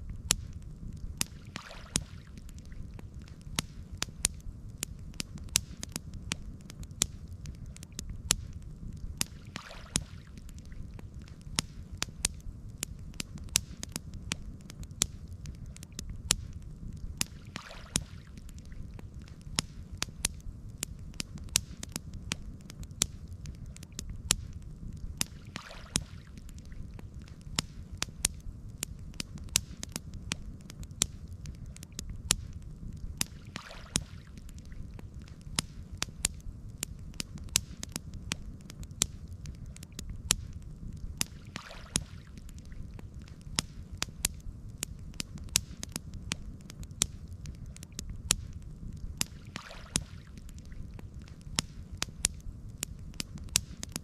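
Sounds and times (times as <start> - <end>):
campfire crackling and popping: 0.0 - 54.0
low steady rumble: 0.0 - 54.0.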